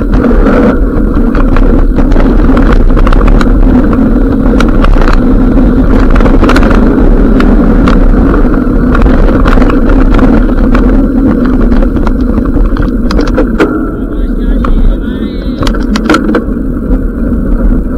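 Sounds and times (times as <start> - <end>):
bike knocks and rattles: 0.0 - 14.9, 15.6 - 17.9
bike tyres rumbling over stones: 0.0 - 17.9
wind buffeting the microphone: 0.0 - 17.9.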